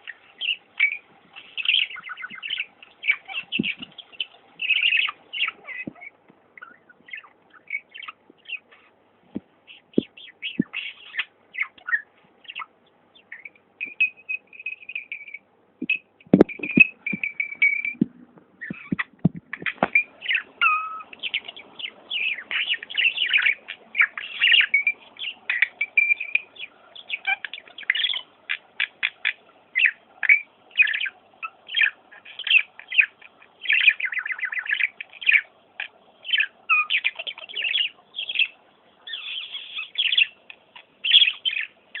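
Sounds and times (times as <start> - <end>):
bird chirping and twittering: 0.0 - 42.0.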